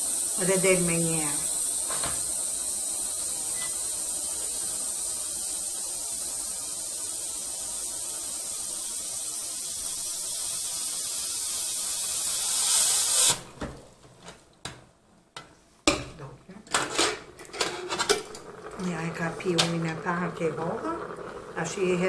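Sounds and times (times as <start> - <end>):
steam hissing from valve: 0.0 - 13.5, 17.4 - 22.0.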